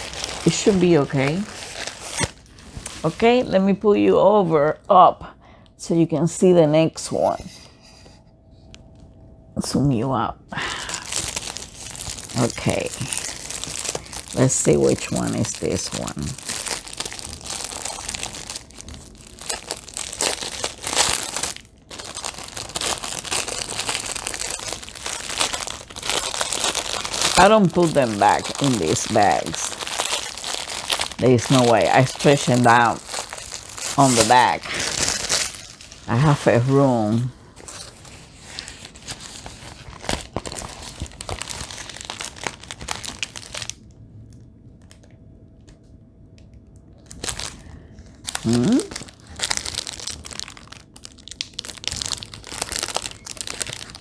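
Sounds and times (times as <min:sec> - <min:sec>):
plastic packaging crinkling: 0:00.0 - 0:03.6, 0:10.6 - 0:45.1, 0:46.9 - 0:54.0.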